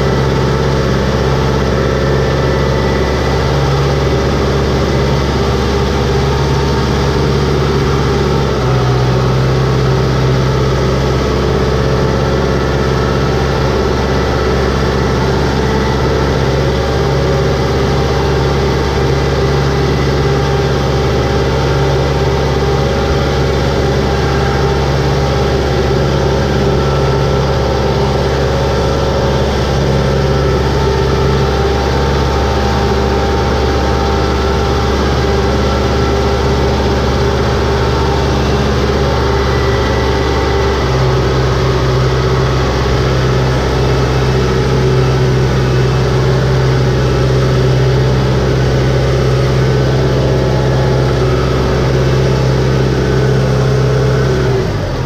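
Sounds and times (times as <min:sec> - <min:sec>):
tractor diesel engine running: 0:00.0 - 0:55.0
wheels churning through mud: 0:00.0 - 0:55.0.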